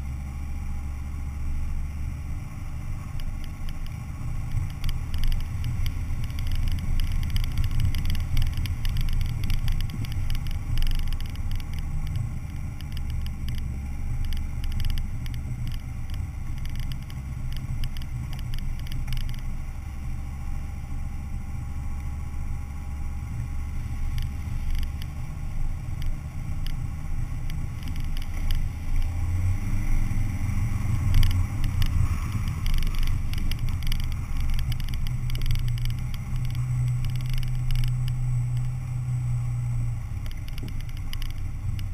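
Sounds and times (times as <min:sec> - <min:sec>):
car engine low rumble: 0:00.0 - 0:41.9.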